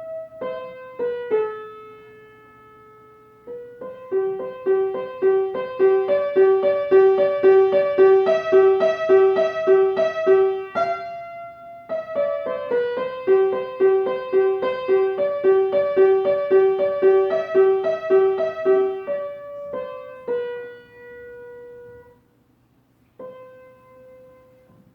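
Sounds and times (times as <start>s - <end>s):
piano melody: 0.0s - 22.6s, 23.2s - 24.9s.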